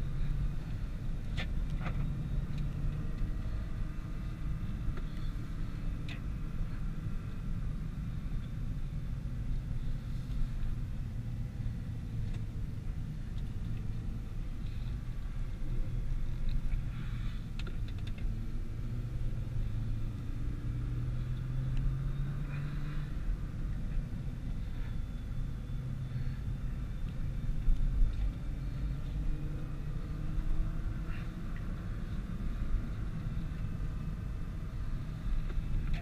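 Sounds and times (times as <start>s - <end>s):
low road rumble: 0.0s - 36.0s.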